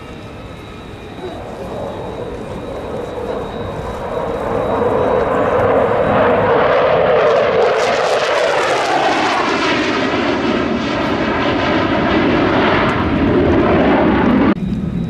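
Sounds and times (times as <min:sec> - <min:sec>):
fighter jet passing overhead: 0:00.0 - 0:15.0.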